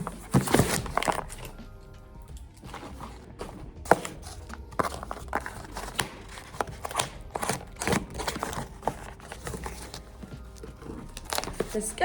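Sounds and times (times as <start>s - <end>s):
packaging rustling and tearing: 0.0s - 1.6s, 2.6s - 12.0s.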